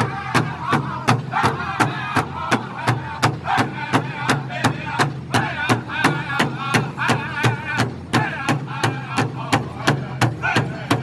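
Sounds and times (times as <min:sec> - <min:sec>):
large hide drum beating: 0:00.0 - 0:11.0
men singing together: 0:00.0 - 0:11.0.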